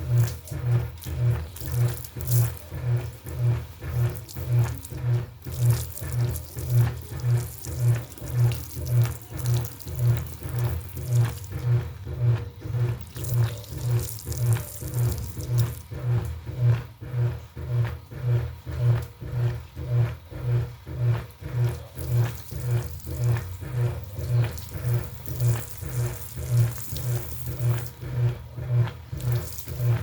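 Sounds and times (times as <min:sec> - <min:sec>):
washing machine motor hum: 0:00.0 - 0:30.0
water sloshing in washing machine: 0:00.0 - 0:30.0.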